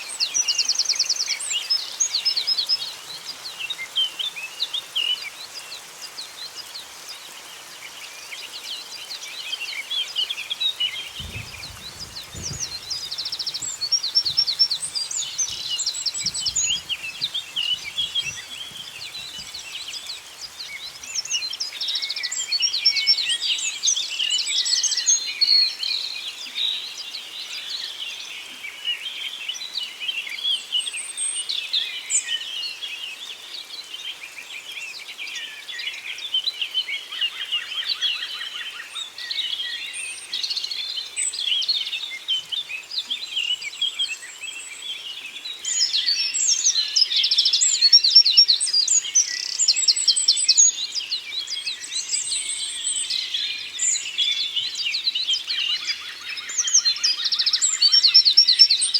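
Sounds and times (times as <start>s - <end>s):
songbirds chorus: 0.0s - 29.8s, 31.8s - 58.9s.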